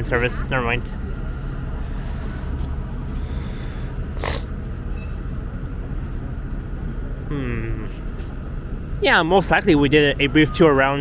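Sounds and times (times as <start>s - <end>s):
buses idling: 0.0s - 11.0s.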